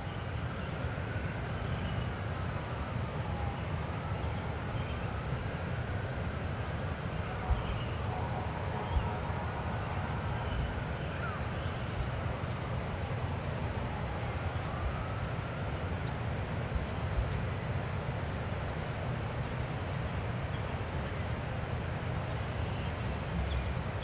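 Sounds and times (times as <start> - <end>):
low outdoor rumble: 1.3 - 24.0.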